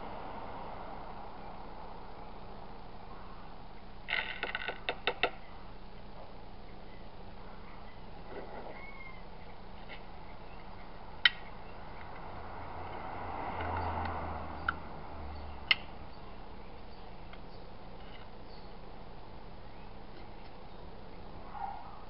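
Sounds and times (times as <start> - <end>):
steady low background noise: 0.0 - 22.0.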